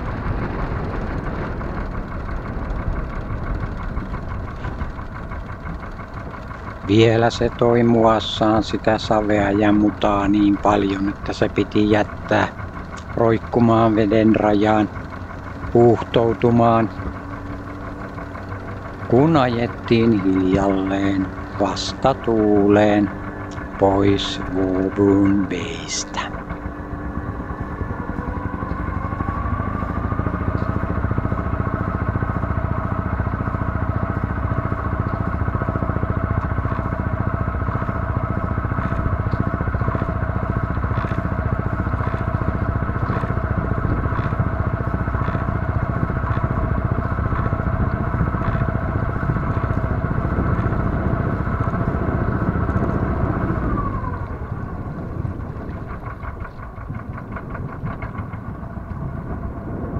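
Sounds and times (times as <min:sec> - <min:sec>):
boat engine motoring: 0:00.0 - 0:59.9.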